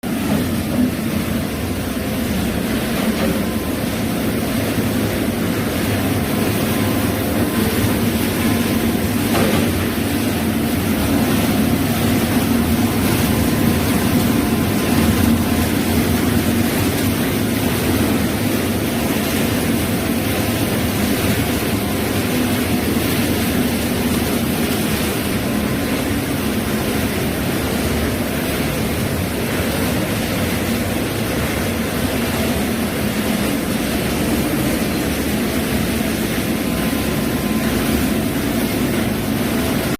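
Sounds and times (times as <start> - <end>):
machine drone: 0.0 - 39.9.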